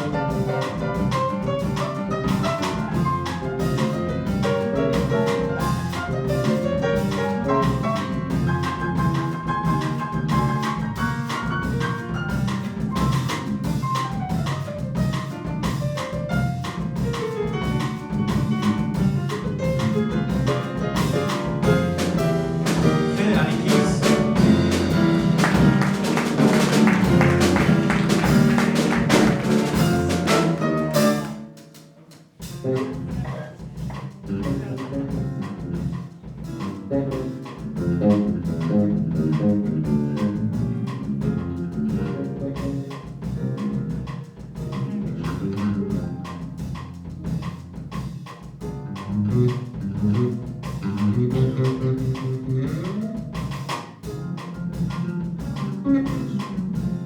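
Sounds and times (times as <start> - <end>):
drum kit: 0.0 - 57.0
jazz band playing: 0.0 - 57.0.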